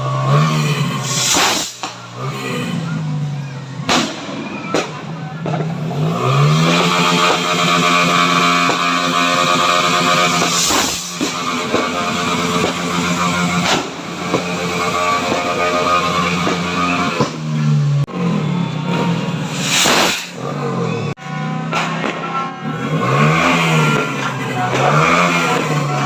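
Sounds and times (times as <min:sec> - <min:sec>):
engine droning at high revs: 0:00.0 - 0:26.0
firecracker bangs: 0:00.6 - 0:02.4, 0:03.8 - 0:17.8, 0:18.9 - 0:20.8, 0:21.5 - 0:26.0.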